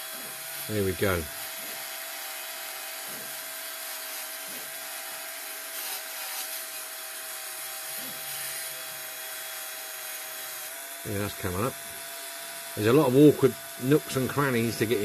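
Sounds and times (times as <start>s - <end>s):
rotary tool whining: 0.0s - 15.0s.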